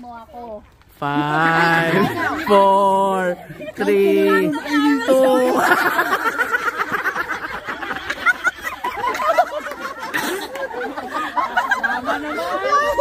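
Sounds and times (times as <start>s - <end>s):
people laughing and talking: 0.9s - 13.0s.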